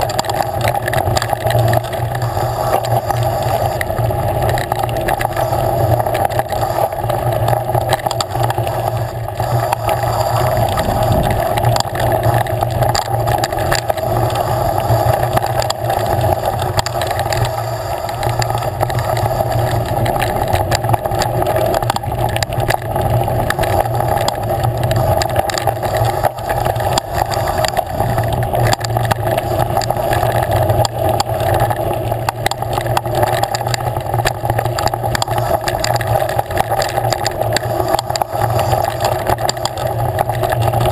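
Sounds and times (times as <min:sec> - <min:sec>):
riding drone: 0:00.0 - 0:40.9.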